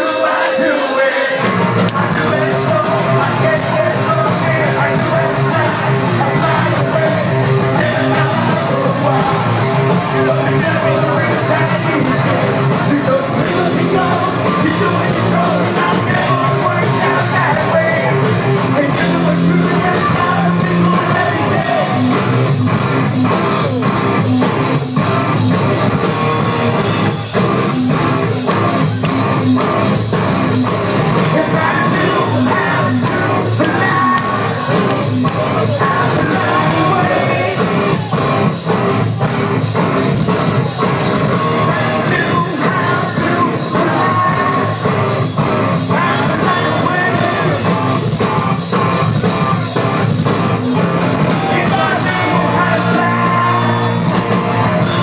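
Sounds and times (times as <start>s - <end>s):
live metal band playing: 0.0s - 55.0s
steady drum beat: 0.0s - 55.0s.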